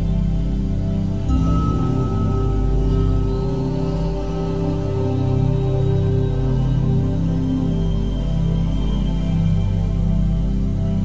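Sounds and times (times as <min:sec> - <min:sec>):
slow new-age music: 0:00.0 - 0:11.0.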